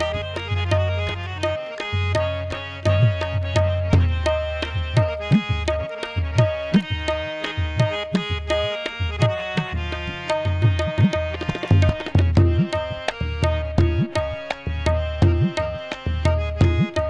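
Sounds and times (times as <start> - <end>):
harmonium melody: 0.0 - 17.0
tabla beat: 0.0 - 17.0.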